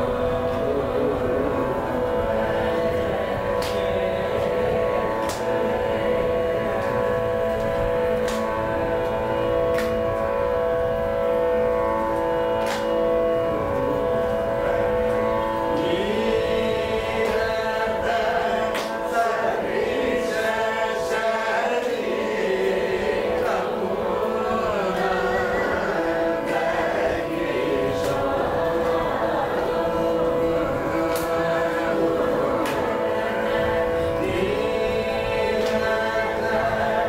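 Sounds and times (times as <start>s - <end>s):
group of voices singing: 0.0s - 37.0s
steady drone: 0.0s - 37.0s.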